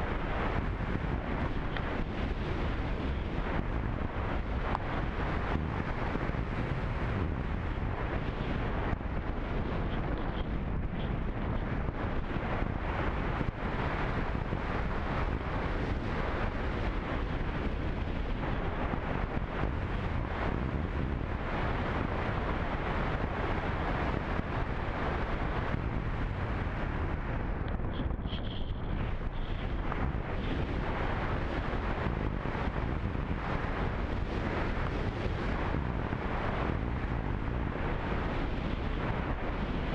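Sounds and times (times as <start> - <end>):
airflow buffeting microphone: 0.0 - 39.9.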